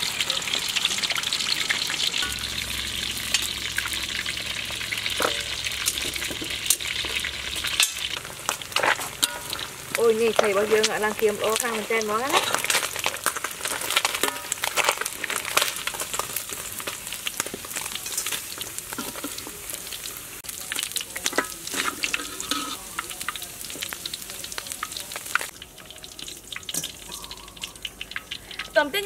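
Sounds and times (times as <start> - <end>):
fish deep-frying in oil: 0.0 - 29.0
spatula stirring in wok: 2.2 - 28.8.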